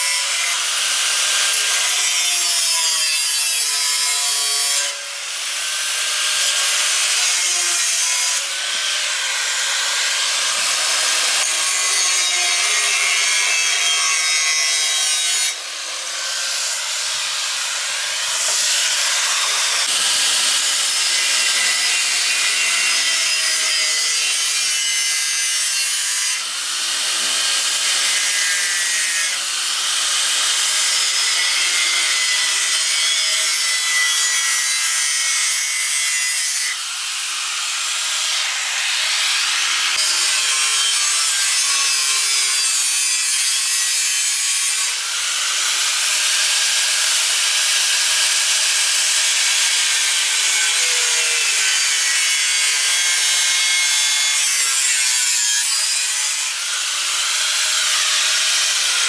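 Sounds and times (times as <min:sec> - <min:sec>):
tool cutting with hissing rasp: 0:00.0 - 0:59.0.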